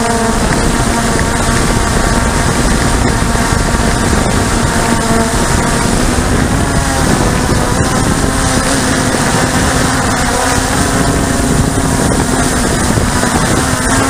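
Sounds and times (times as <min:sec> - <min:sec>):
model aircraft motor and propeller: 0:00.0 - 0:14.0
wind rushing over microphone: 0:00.0 - 0:14.0.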